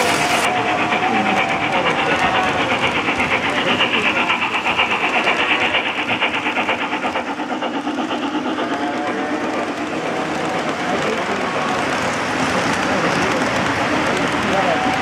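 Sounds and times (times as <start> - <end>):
model steam locomotive pulsing hiss: 0.0 - 15.0
wheels rumbling on rails: 0.0 - 15.0.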